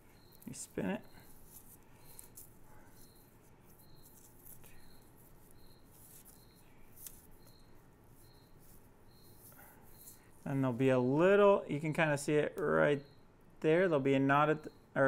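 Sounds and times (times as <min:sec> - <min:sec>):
faint high chirp: 0:00.0 - 0:15.0.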